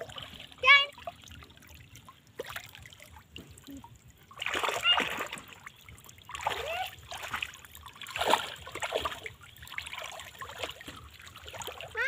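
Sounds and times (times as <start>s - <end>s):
water splashing and dribbling: 0.0s - 12.0s.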